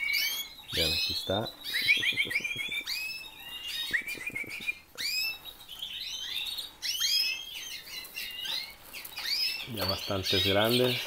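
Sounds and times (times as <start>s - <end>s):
canaries chirping: 0.0s - 11.0s.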